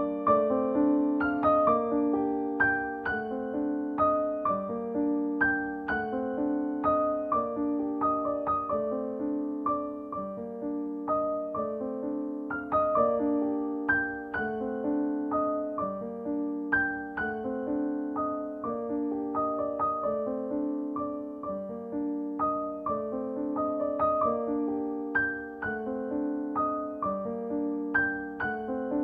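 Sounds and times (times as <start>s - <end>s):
piano melody: 0.0s - 29.0s.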